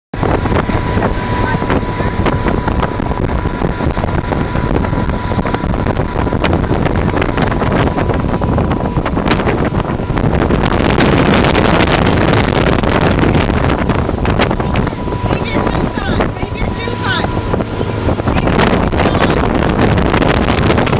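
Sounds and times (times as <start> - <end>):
motorboat engine and hull noise: 0.1 - 20.9
wind buffeting microphone: 0.1 - 20.9.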